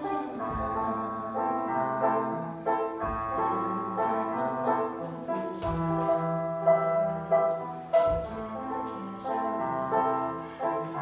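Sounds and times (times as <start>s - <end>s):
electronic keyboard melody: 0.0s - 11.0s.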